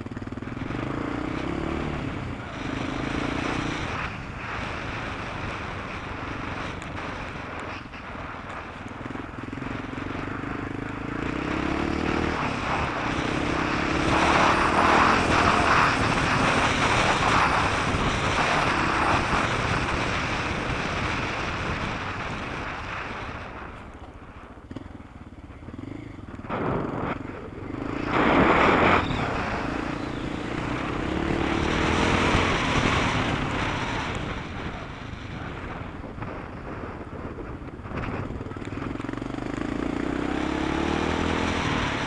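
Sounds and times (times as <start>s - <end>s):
off-road motorcycle engine revving: 0.0s - 42.0s.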